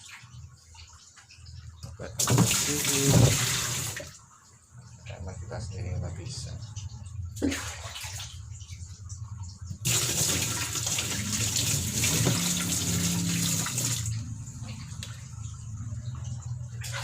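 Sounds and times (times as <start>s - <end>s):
running water splashing: 0.0s - 17.0s.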